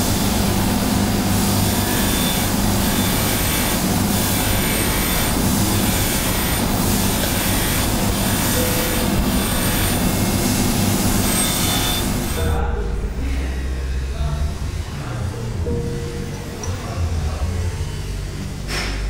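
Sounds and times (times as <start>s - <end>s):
polishing motor humming: 0.0s - 18.7s.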